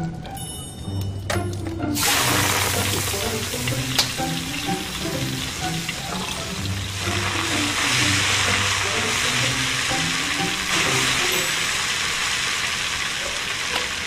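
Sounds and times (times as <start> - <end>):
oil sizzling in a wok: 2.0 - 14.0.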